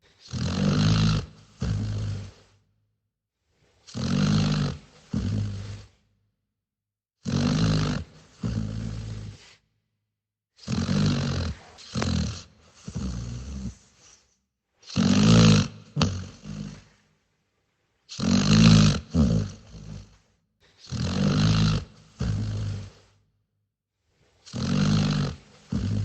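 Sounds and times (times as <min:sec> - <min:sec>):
dog snoring: 0:00.0 - 0:02.7, 0:03.7 - 0:06.1, 0:07.2 - 0:09.6, 0:10.6 - 0:17.0, 0:18.1 - 0:23.2, 0:24.3 - 0:26.0.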